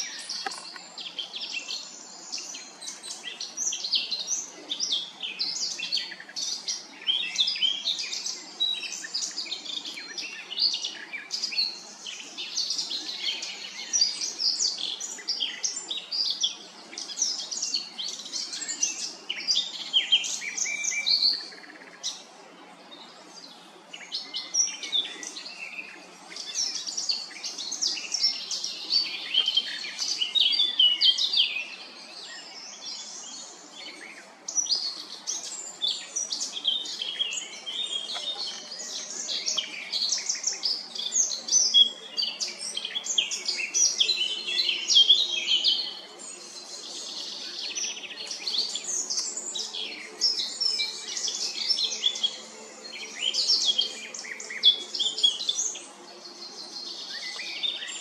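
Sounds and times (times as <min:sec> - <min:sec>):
bird warbling song: 0:00.0 - 0:58.0.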